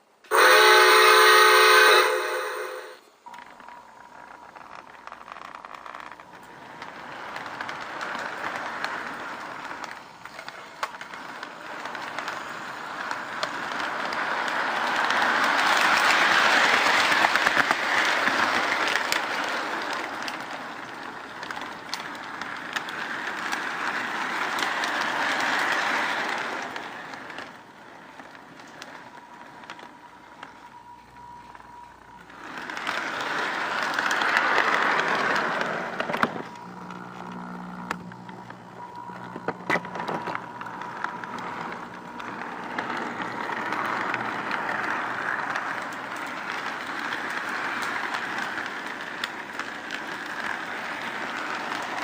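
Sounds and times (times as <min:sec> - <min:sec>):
model train running on track: 0:00.0 - 0:52.0
small clicks of wheels: 0:02.0 - 0:52.0.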